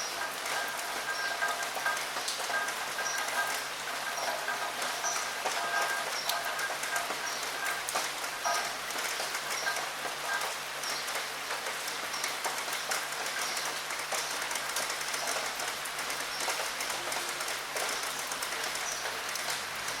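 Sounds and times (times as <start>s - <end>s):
rain ticking on a window: 0.0s - 20.0s.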